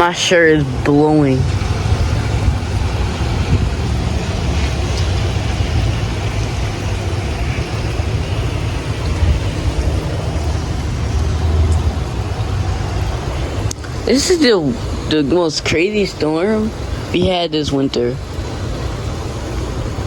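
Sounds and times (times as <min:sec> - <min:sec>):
hiss of wind: 0:00.0 - 0:20.0
storm wind buffeting microphone: 0:00.0 - 0:20.0.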